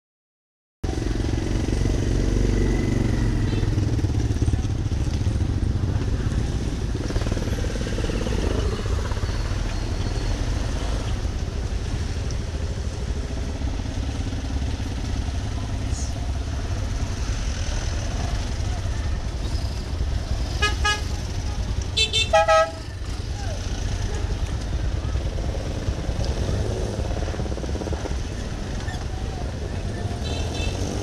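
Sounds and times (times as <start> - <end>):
motorcycle engine running: 0.9 - 31.0.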